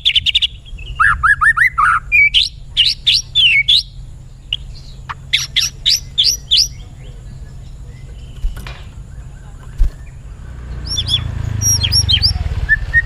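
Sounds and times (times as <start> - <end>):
low steady hum: 0.0 - 12.8
bird singing whistled notes: 0.0 - 13.0.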